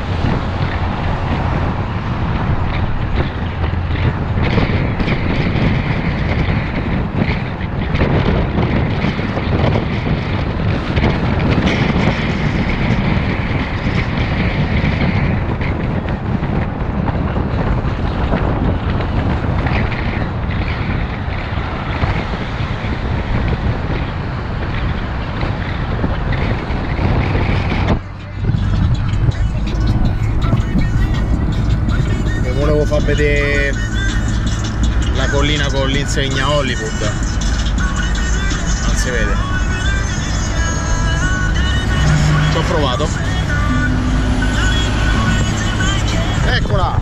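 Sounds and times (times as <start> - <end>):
car driving road noise: 0.0 - 47.0
wind buffeting microphone: 0.0 - 47.0.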